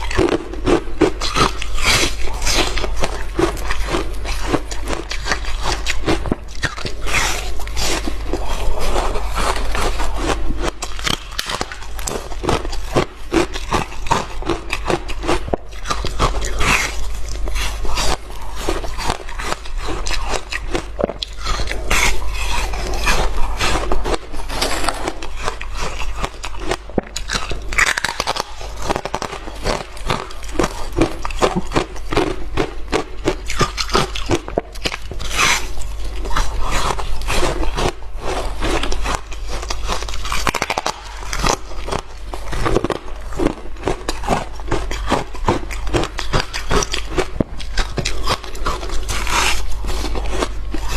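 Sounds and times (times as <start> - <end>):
ice crunching while chewed: 0.0 - 50.9
steady low hum: 0.0 - 50.9.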